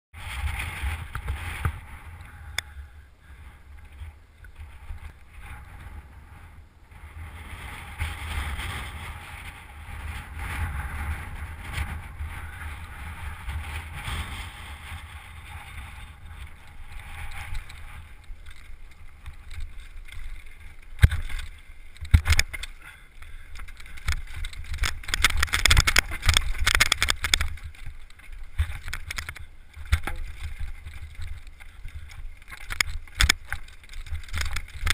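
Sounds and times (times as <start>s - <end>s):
bike tyre and frame noise: 0.1s - 34.9s
wind rumble on microphone: 0.1s - 34.9s.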